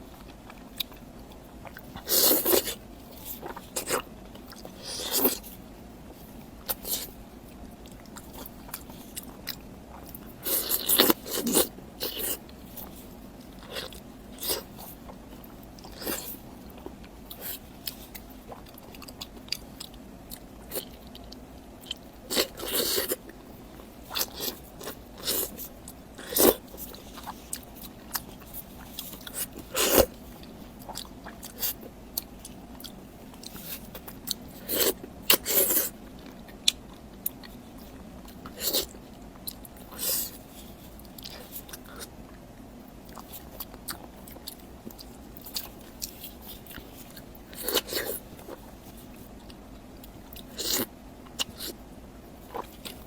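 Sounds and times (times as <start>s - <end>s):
chewing: 0.1s - 42.4s, 43.0s - 51.8s, 52.4s - 53.0s.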